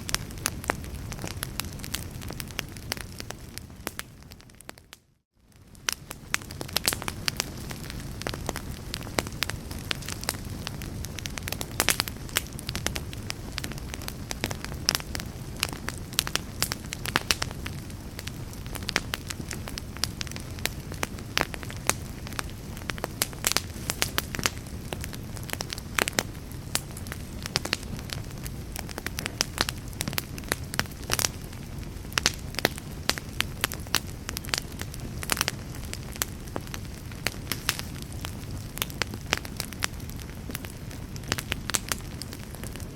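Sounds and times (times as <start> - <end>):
logs crackling and popping: 0.0 - 42.9
low rumble of flames: 0.0 - 42.9.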